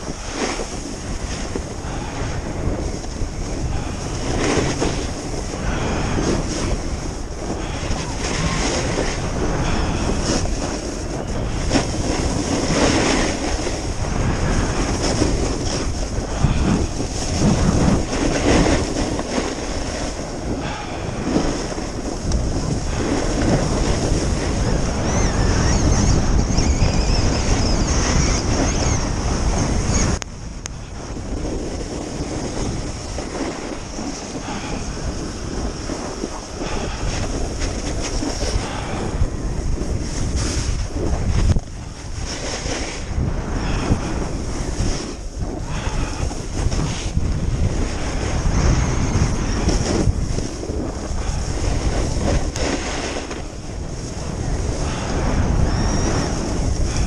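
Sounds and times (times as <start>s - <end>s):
skis scraping on snow: 0.0s - 26.3s, 31.0s - 57.0s
wind rushing over microphone: 0.0s - 57.0s.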